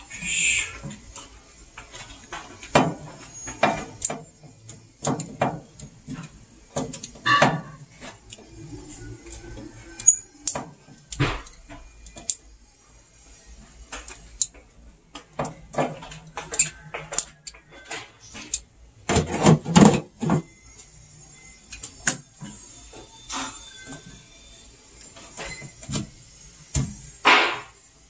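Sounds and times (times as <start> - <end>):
hands and tools working on wiring: 0.0 - 27.8.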